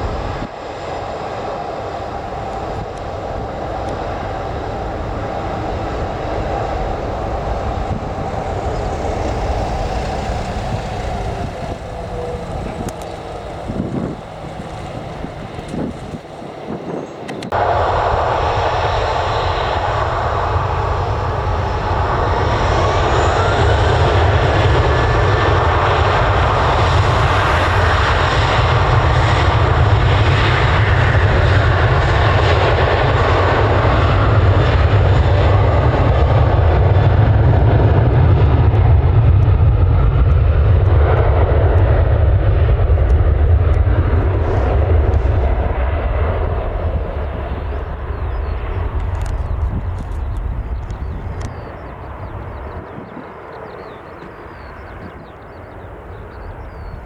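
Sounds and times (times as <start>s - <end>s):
aircraft engines roaring: 0.0s - 57.0s.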